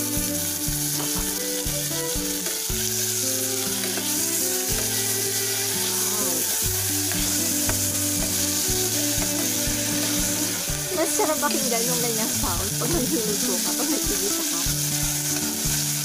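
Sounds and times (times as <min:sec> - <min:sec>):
vegetables sizzling in hot oil: 0:00.0 - 0:16.0
spatula scraping pan: 0:00.1 - 0:16.0.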